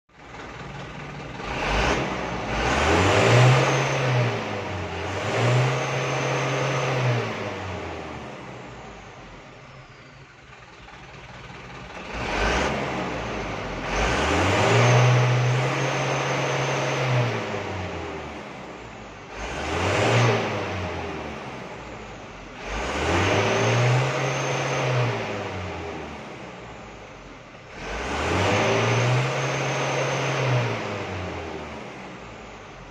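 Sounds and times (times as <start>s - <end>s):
diesel truck engine revving: 0.1s - 32.9s.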